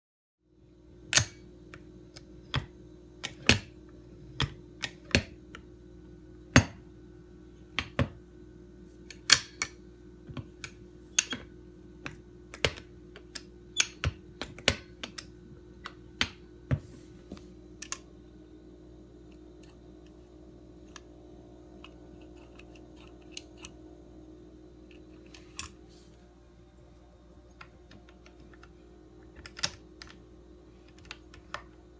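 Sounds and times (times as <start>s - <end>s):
steady low hum: 0.4s - 31.9s.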